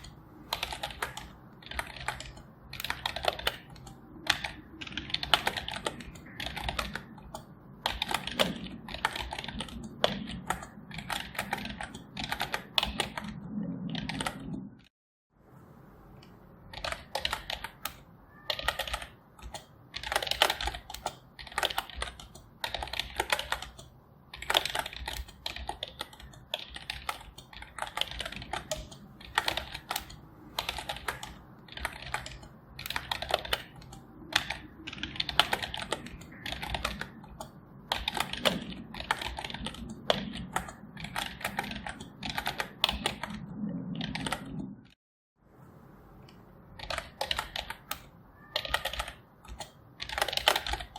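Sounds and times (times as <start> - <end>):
typing on computer keyboard: 0.0 - 14.8, 16.7 - 44.9, 46.8 - 50.9.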